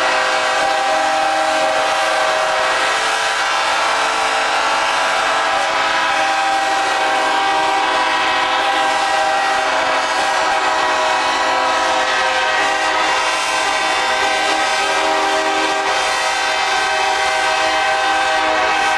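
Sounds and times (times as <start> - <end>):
locomotive air horns blowing: 0.0 - 18.9.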